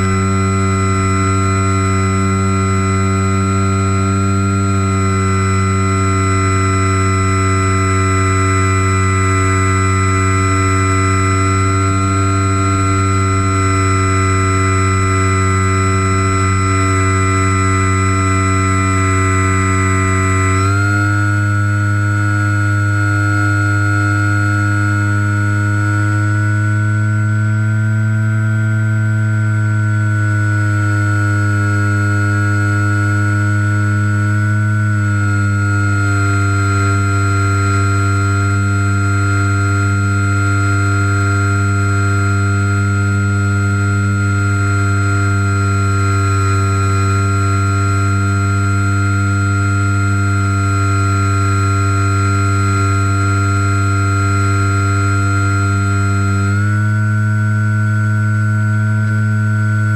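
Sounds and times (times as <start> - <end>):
model plane propeller whine: 0.0 - 59.9.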